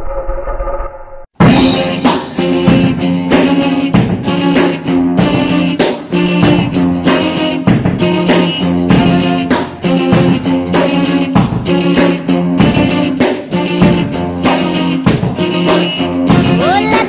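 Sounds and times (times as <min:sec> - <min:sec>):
theme music with steady beat: 0:01.4 - 0:17.0.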